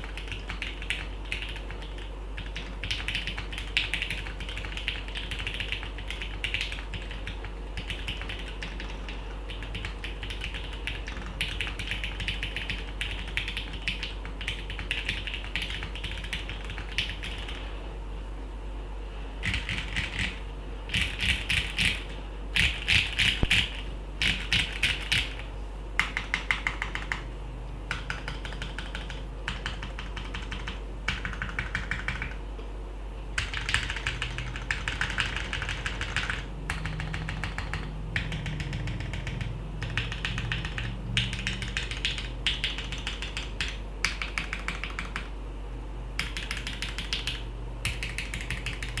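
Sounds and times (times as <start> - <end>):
mechanical keyboard typing: 0.0 - 17.7, 19.4 - 25.4, 26.0 - 27.3, 27.9 - 32.4, 33.4 - 45.3, 46.2 - 49.0.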